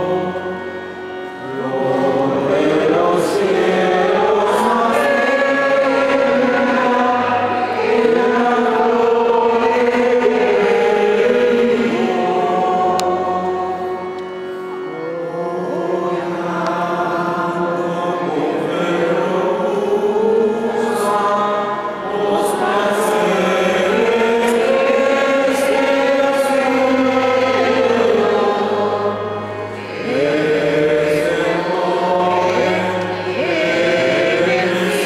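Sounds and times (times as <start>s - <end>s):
choir singing a hymn: 0.0s - 35.0s.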